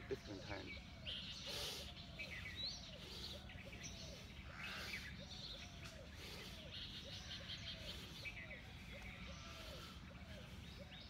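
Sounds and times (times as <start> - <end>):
low bird call: 0.0 - 11.0.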